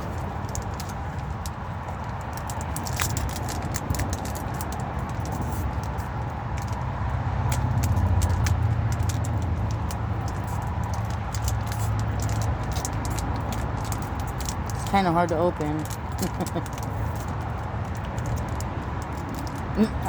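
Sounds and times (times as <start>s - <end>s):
wrapper crackling: 0.0s - 19.9s.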